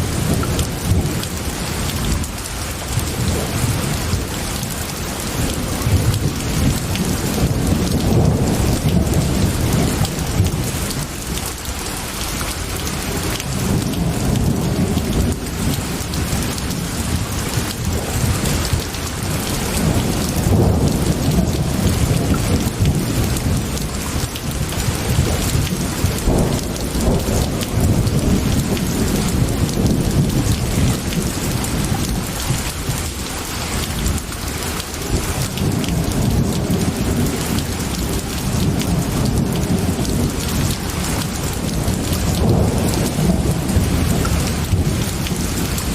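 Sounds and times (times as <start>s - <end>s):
low rolling thunder: 0.0s - 11.4s, 13.0s - 45.9s
heavy rain: 0.0s - 45.9s.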